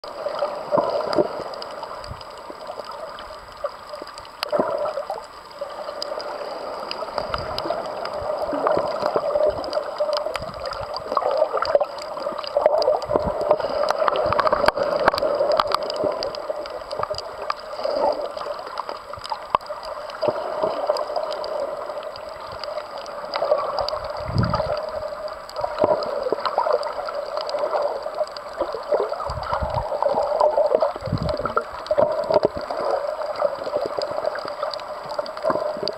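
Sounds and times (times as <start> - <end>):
underwater gurgling and sloshing: 0.0 - 35.9
small clicks: 0.4 - 35.9.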